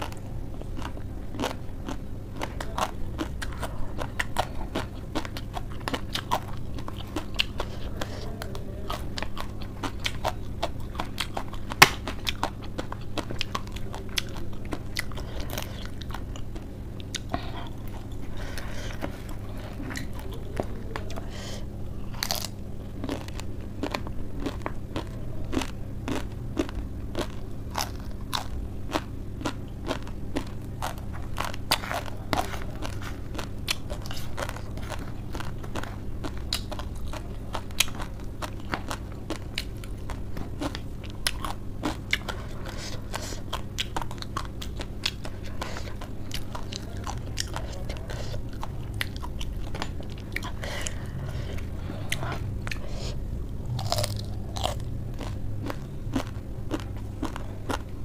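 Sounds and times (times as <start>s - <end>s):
crunchy chewing of leaves: 0.0s - 58.0s
steady low hum: 0.0s - 58.0s.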